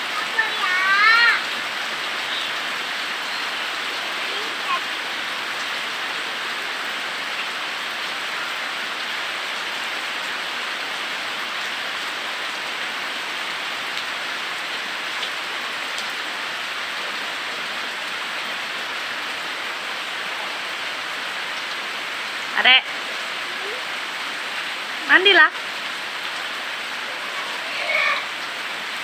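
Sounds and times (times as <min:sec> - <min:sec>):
rain falling steadily: 0:00.0 - 0:29.0.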